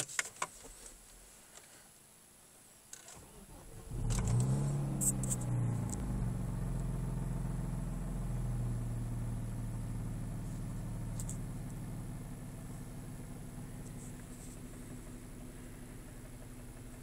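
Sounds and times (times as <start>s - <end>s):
car engine idling: 3.4s - 17.0s.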